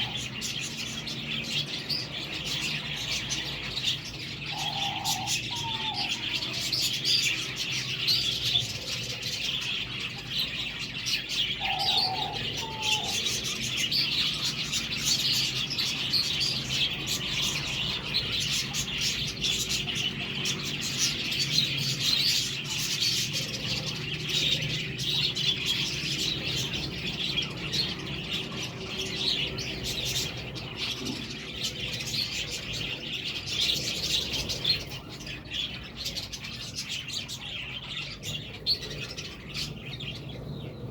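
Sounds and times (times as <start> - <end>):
budgerigars chattering and warbling: 0.0 - 40.9.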